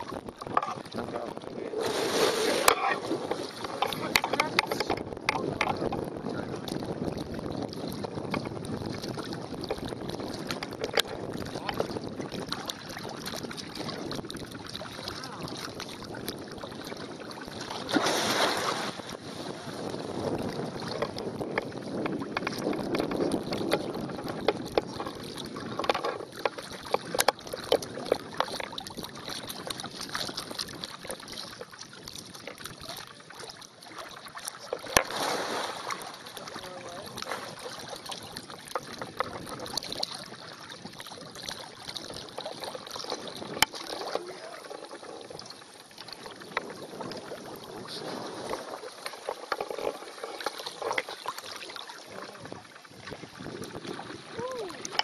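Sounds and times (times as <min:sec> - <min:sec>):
wind buffeting microphone: 0:00.0 - 0:33.5, 0:34.6 - 0:55.0
water sloshing and splashing: 0:00.0 - 0:55.0.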